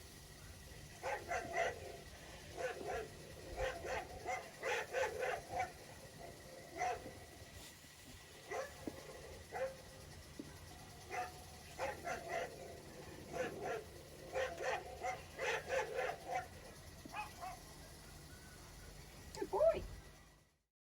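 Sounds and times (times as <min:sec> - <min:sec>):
dogs barking through speaker: 0:00.4 - 0:07.5, 0:08.3 - 0:18.4.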